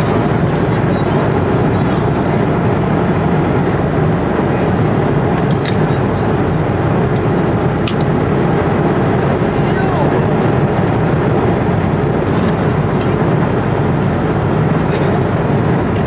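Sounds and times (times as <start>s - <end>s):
jet airliner cabin roar: 0.0s - 16.0s.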